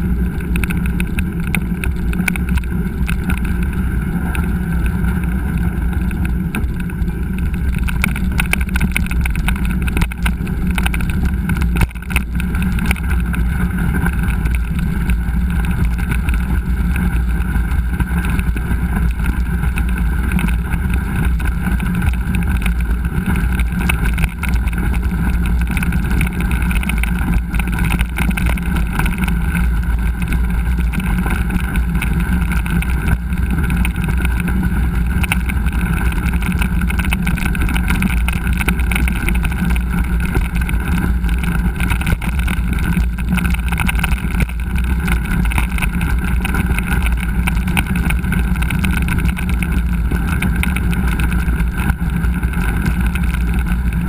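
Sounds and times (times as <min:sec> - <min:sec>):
bike rattles and knocks: 0:00.0 - 0:54.0
wind rush over microphone: 0:00.0 - 0:54.0.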